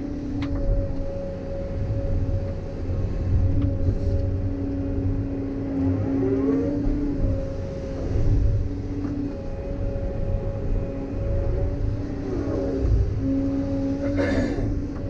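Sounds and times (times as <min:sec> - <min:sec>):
hydraulic whine: 0:00.0 - 0:15.0.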